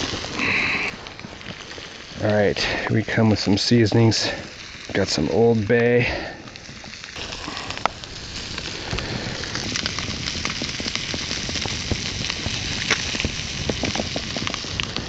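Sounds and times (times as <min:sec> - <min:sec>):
crackles and pops: 0:00.0 - 0:15.0
fish sizzling in a skillet: 0:00.0 - 0:15.0.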